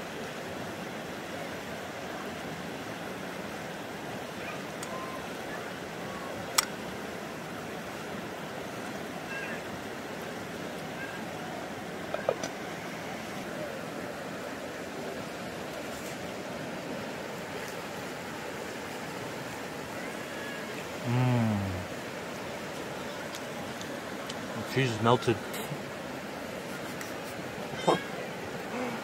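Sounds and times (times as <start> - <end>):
creek rushing: 0.0 - 29.0.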